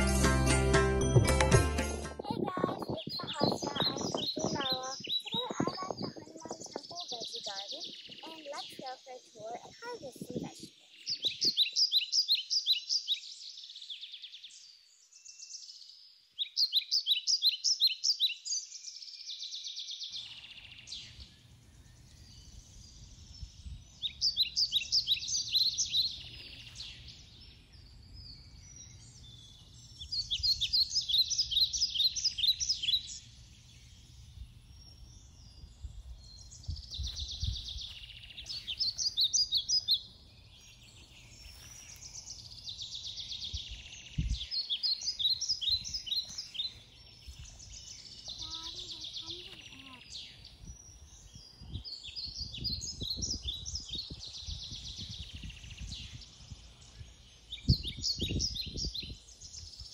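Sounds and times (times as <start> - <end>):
songbird singing: 1.2 - 59.9.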